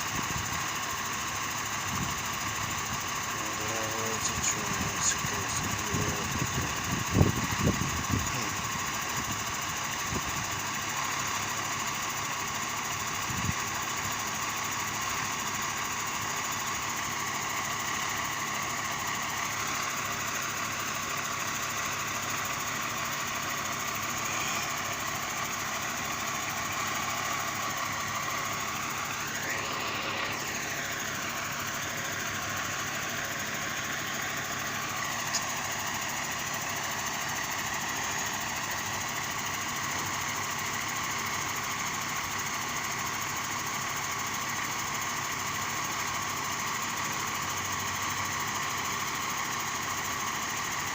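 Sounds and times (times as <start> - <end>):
fire truck engine running: 0.0 - 50.9.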